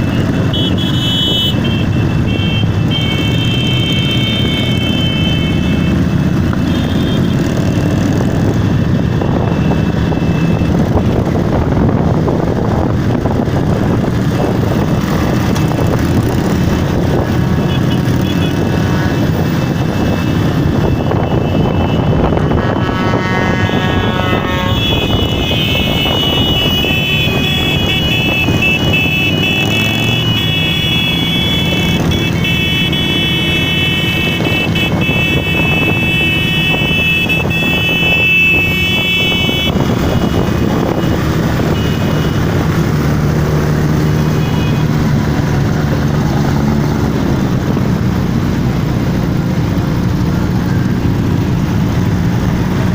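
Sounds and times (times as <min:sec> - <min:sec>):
motorcycle engines running: 0:00.0 - 0:52.9.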